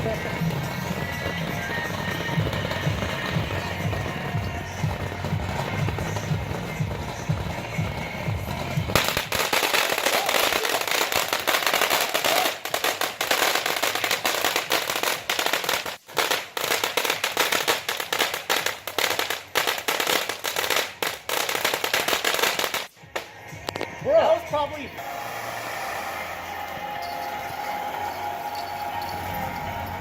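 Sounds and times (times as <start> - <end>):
fireworks crackling pops: 0.0 - 24.3, 25.0 - 30.0.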